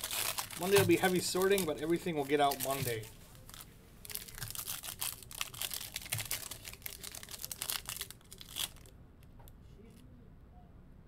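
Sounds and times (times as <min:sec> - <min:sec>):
foil wrapper crinkling: 0:00.0 - 0:08.9.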